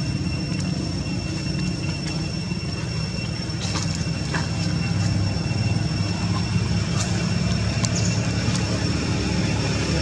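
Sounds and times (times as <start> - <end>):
high whine: 0.0 - 10.0
motor rumble: 0.0 - 10.0.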